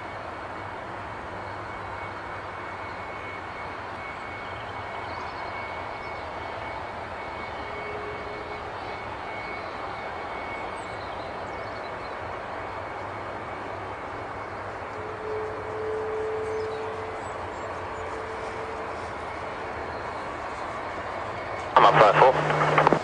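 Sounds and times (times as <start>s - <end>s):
jet engine running: 0.0s - 23.0s.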